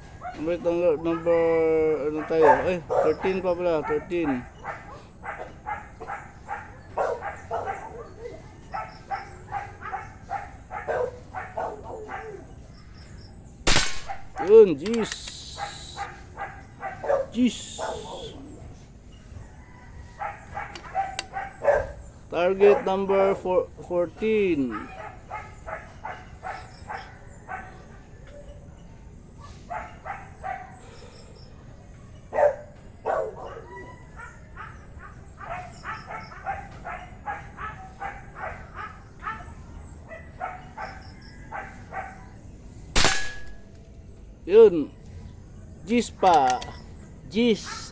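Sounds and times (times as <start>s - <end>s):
dog barking: 0.0s - 13.1s, 14.1s - 18.7s, 19.6s - 23.6s, 24.4s - 43.6s, 47.5s - 47.9s.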